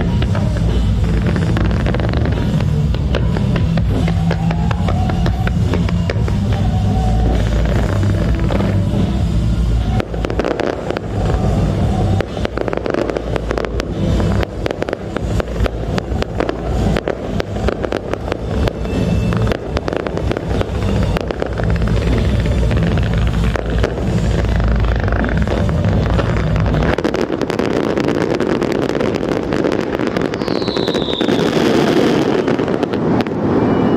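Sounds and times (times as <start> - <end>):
loud music with drum beat: 0.0 - 32.6
falling firework whistle: 0.0 - 33.9
fireworks bursting and crackling: 0.0 - 33.9.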